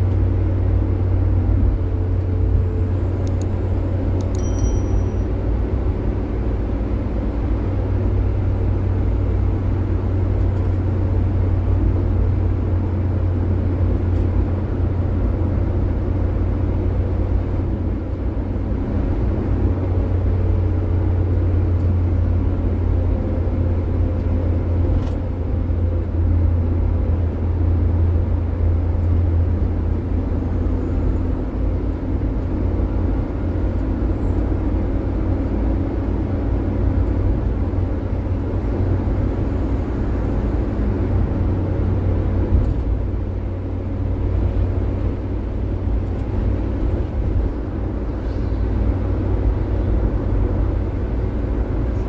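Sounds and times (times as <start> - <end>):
engine and road noise drone: 0.0 - 52.0.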